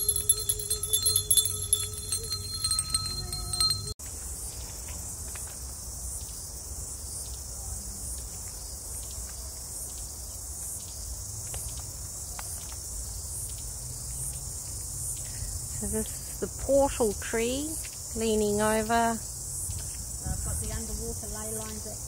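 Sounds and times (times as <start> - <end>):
pulsing insect chorus: 0.0 - 22.0.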